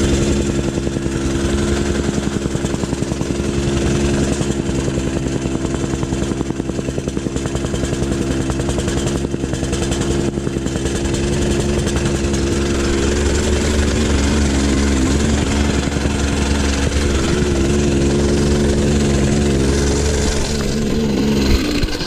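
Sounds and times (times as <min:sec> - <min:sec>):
compactor gas engine running: 0:00.0 - 0:22.0.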